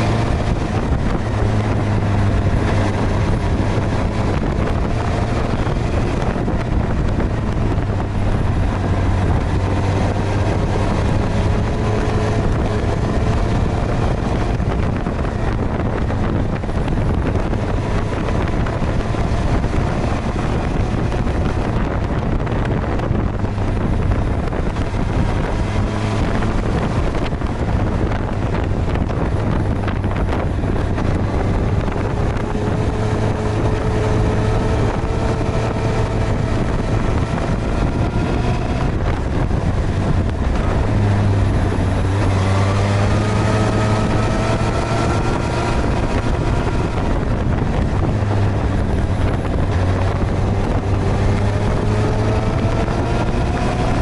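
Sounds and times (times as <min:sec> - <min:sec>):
motorcycle engine accelerating: 0:00.0 - 0:54.0
wind rush on microphone: 0:00.0 - 0:54.0.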